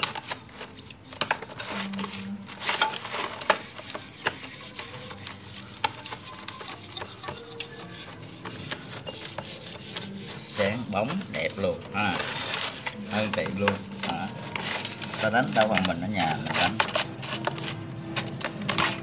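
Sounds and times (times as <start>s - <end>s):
scouring pad rasping on metal: 0.0s - 19.0s.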